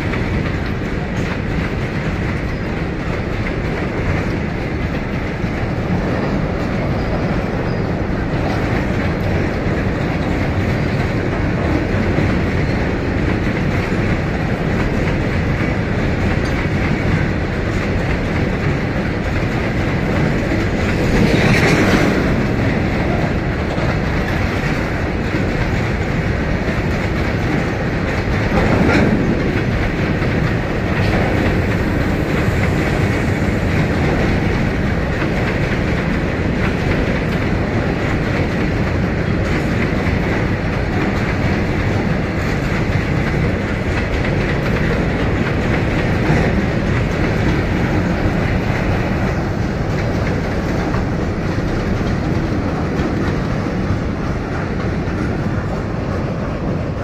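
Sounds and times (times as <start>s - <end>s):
freight train rumble: 0.0s - 57.0s
wheels clacking over rail joints: 0.0s - 57.0s.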